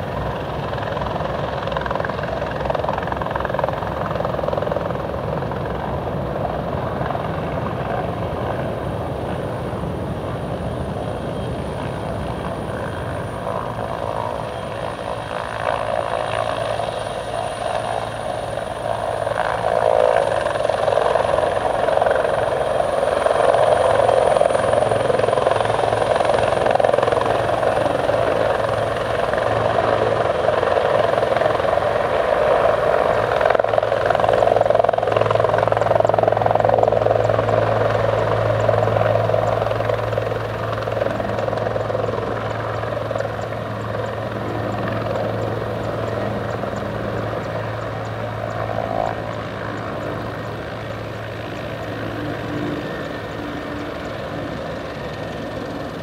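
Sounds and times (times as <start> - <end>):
helicopter rotor and engines: 0.0 - 56.0
thin high turbine whine: 0.0 - 56.0.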